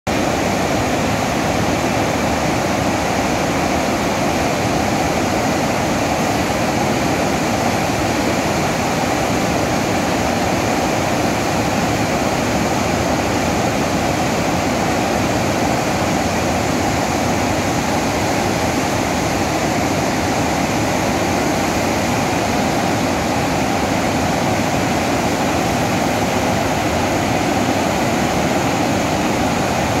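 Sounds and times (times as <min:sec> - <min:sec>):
water rushing from dam spillway: 0:00.1 - 0:30.0.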